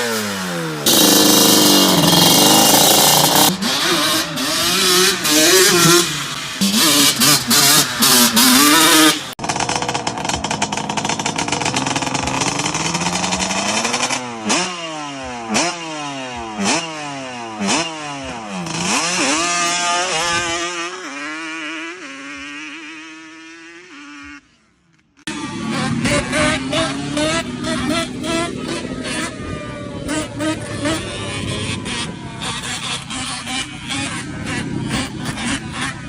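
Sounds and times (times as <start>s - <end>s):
two-stroke engine revving: 0.0s - 24.6s, 25.2s - 36.0s.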